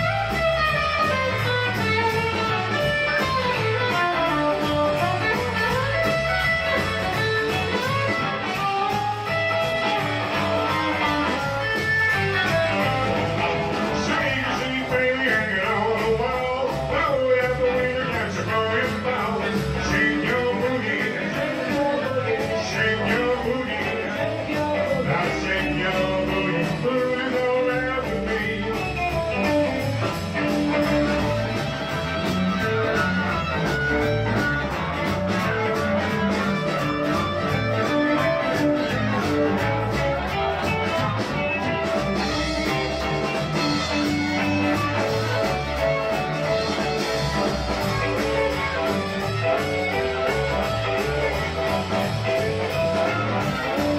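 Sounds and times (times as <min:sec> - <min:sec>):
harmonica: 0:00.0 - 0:53.9
live rock and roll band: 0:00.0 - 0:53.9.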